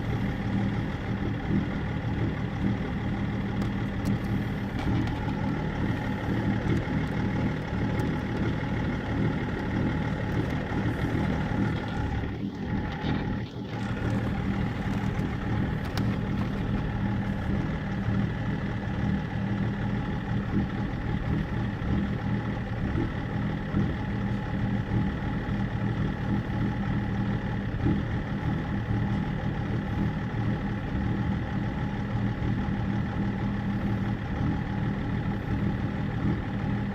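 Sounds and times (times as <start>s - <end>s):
diesel engine idling roughly: 0.0s - 36.9s.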